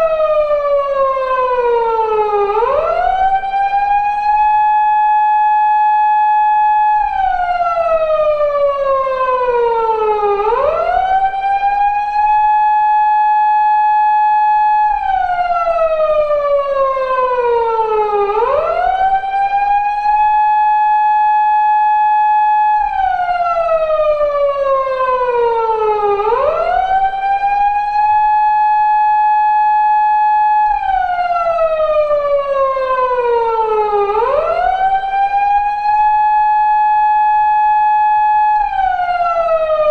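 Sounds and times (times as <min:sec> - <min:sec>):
police car siren wailing: 0:00.0 - 0:39.9.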